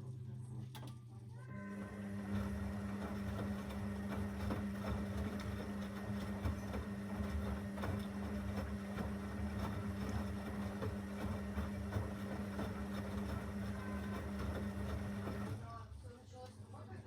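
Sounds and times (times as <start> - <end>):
washing machine motor humming: 1.5 - 15.8.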